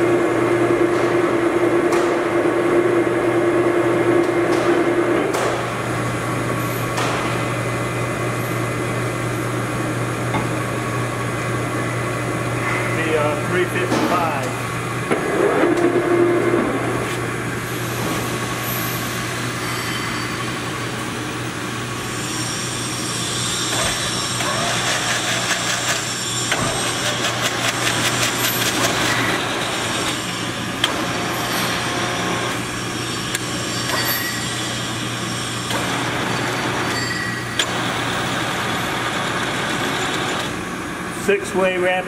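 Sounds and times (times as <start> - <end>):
higher machine whine: 0.0 - 42.0
lathe mechanical hum: 0.0 - 42.0.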